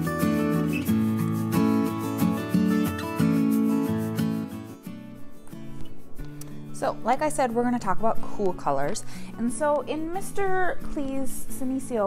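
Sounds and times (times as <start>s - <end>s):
acoustic guitar plucked tune: 0.0s - 12.0s.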